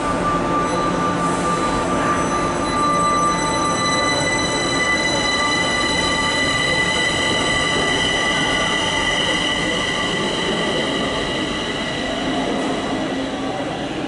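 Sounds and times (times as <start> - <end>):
high-pitched train whine: 0.0 - 14.0
train running noise: 0.0 - 14.0.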